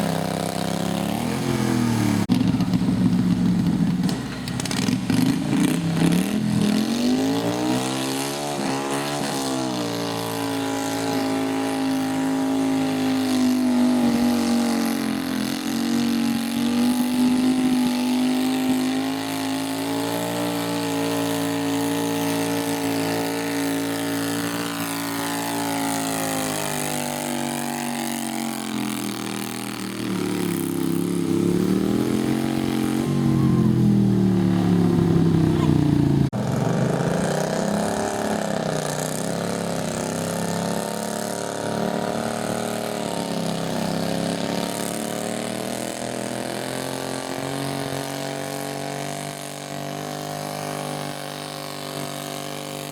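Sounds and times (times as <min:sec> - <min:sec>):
garden tractor engine under load: 0:00.0 - 0:52.9.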